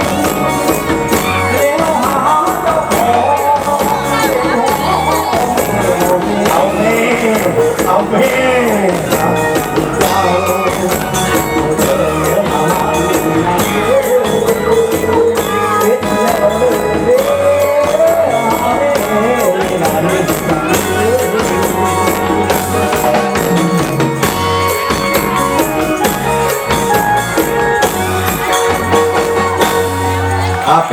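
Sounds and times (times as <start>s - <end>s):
steady drum beat: 0.0s - 30.9s.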